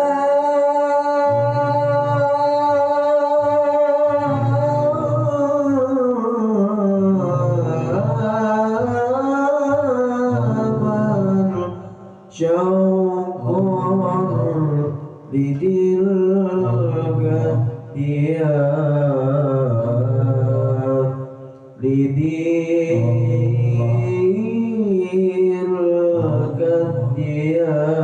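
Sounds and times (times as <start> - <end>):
man singing devotional song: 0.0 - 28.0.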